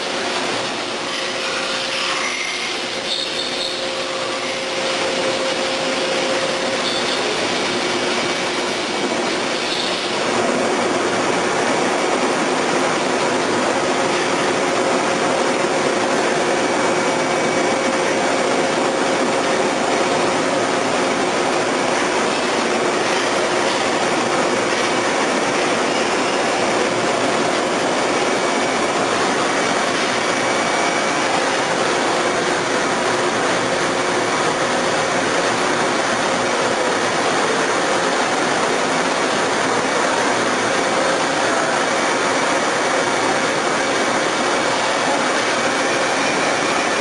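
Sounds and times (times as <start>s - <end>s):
milling machine rushing noise: 0.0s - 47.0s.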